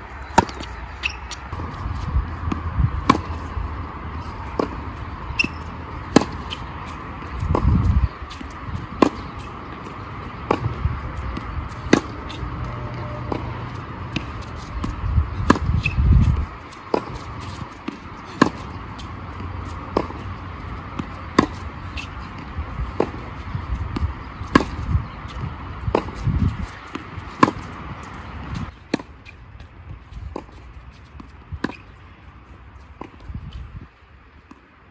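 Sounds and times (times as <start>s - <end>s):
tennis ball bouncing on hard court: 0.1s - 32.1s, 33.0s - 33.4s
tennis racket hitting ball: 0.2s - 29.2s.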